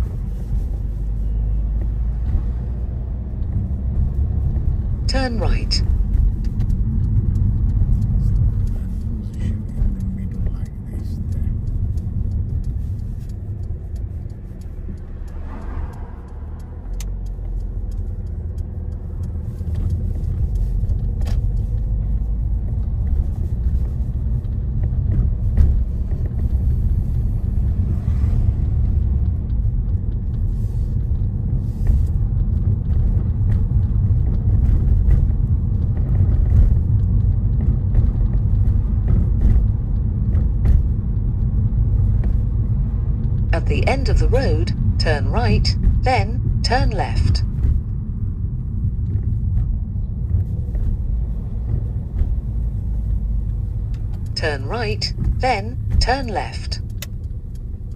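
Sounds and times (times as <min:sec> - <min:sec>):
car engine and road noise: 0:00.0 - 0:57.9.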